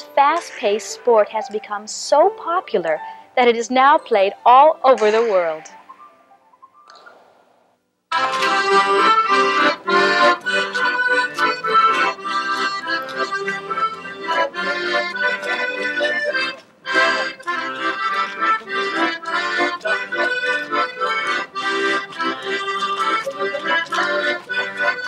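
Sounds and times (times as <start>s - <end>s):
accordion playing folk dance tune: 0.0s - 6.1s, 8.1s - 25.0s.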